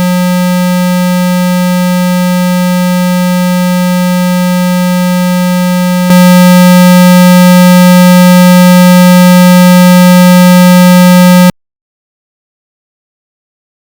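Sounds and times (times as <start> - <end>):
loud buzzy hum tone: 0.0 - 11.5.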